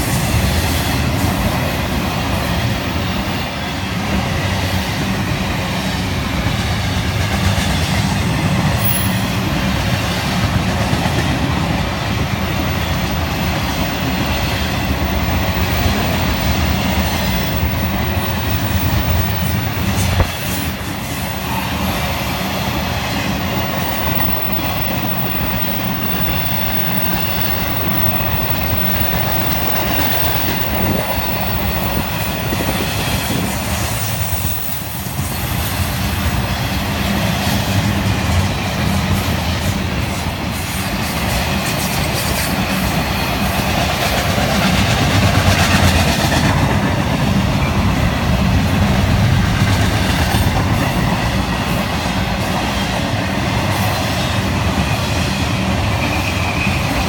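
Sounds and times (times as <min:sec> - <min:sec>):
steel train wheels on rails: 0:00.0 - 0:57.0.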